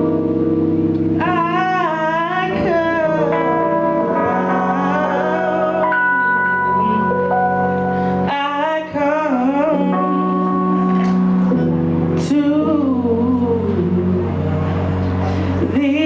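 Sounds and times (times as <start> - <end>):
held instrumental chords: 0.0 - 16.0
person singing live: 1.0 - 16.0.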